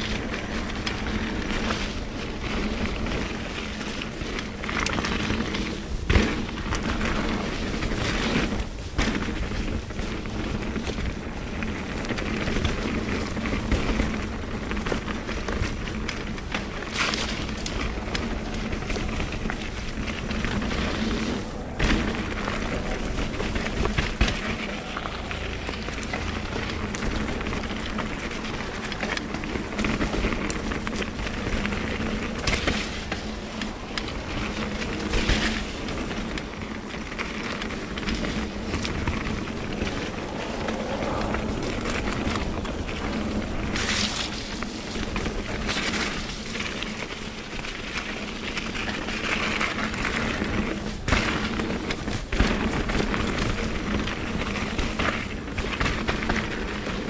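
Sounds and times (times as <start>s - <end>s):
bike tyres on dirt trail: 0.0s - 57.0s
wind buffeting microphone: 0.0s - 57.0s.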